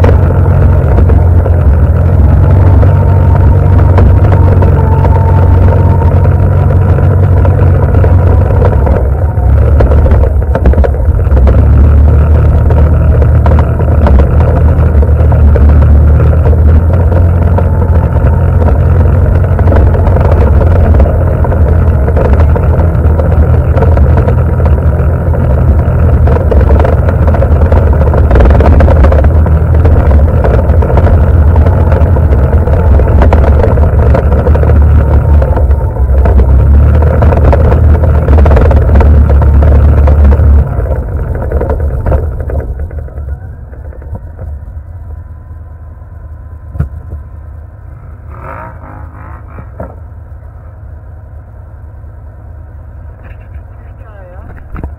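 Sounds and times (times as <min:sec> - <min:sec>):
atv engine running: 0:00.0 - 0:54.9
second atv engine approaching: 0:00.0 - 0:54.9.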